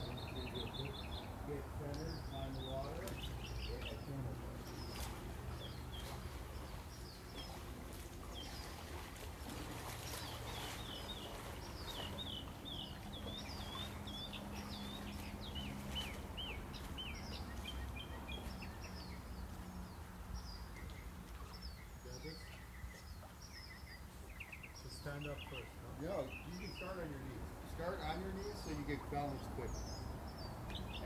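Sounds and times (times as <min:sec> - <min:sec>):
birds chirping and singing: 0:00.0 - 0:31.0
low background noise: 0:00.0 - 0:31.0.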